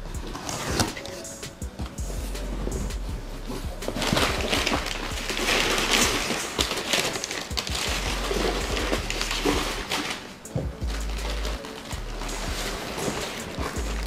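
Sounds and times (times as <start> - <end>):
packing paper rustling: 0.0 - 1.5, 2.4 - 14.0.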